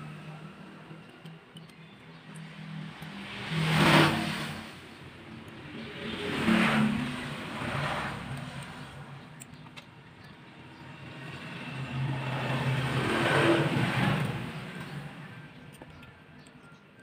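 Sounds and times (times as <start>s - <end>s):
road vehicles passing: 0.0s - 17.0s.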